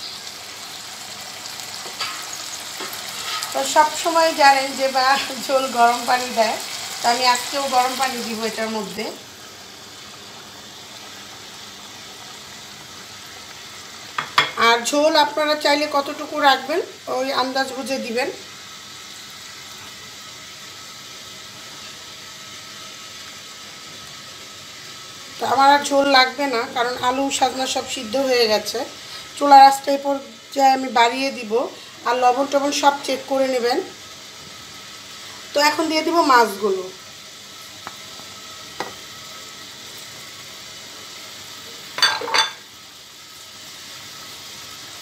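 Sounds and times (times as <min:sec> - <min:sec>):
broth simmering in a pan: 0:00.0 - 0:45.0.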